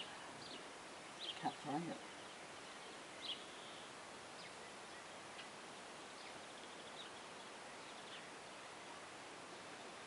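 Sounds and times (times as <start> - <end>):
faint high bird chirps: 0.0 - 8.8
outdoor background hiss: 0.0 - 10.0.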